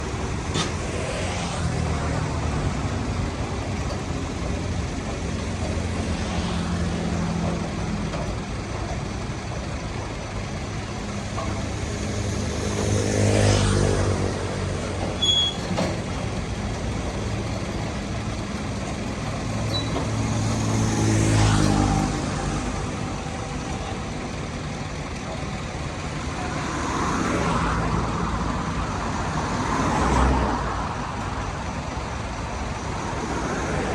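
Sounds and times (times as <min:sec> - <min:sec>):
steady engine hum: 0:00.0 - 0:33.9
vehicles passing: 0:00.0 - 0:33.9.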